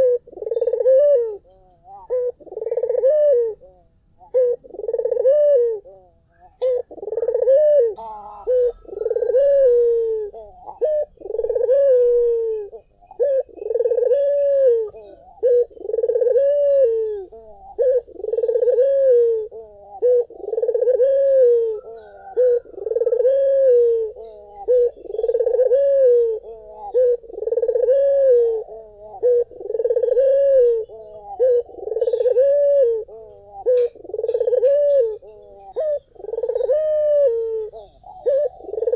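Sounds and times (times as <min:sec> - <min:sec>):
dove cooing: 0:00.0 - 0:38.9
faint bird chirps: 0:00.0 - 0:38.9.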